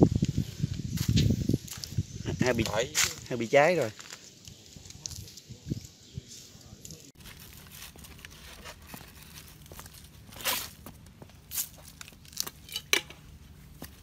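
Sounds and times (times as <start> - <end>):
rustling and crinkling handling: 2.6 - 14.0.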